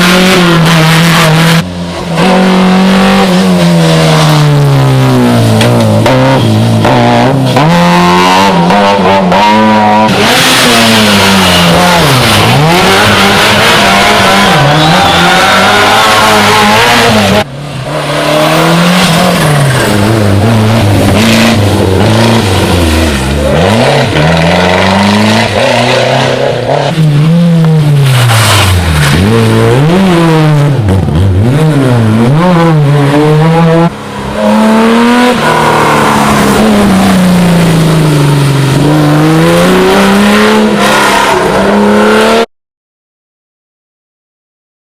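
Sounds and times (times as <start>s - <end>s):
rally car engines revving: 0.0s - 42.5s.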